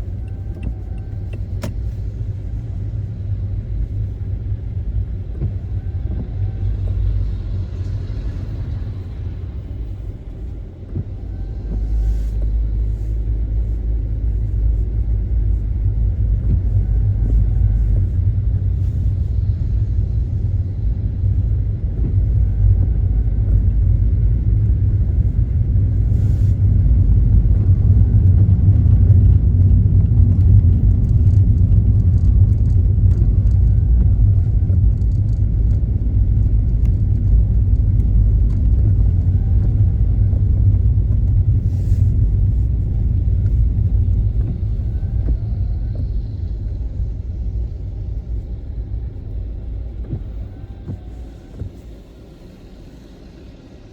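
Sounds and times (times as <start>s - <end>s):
car engine rumble: 0.0s - 53.9s
road noise: 0.0s - 53.9s.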